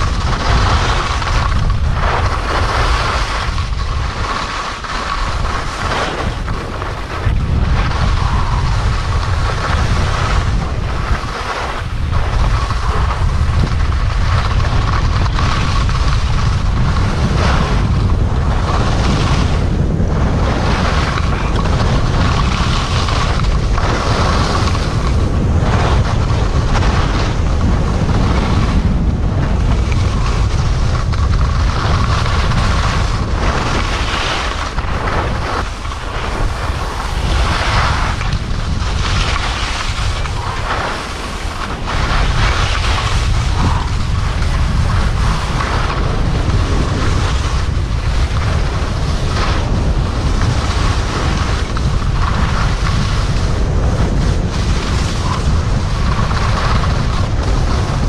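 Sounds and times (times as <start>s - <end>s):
skis scraping over snow: 0.0s - 58.0s
wind buffeting microphone: 0.0s - 58.0s.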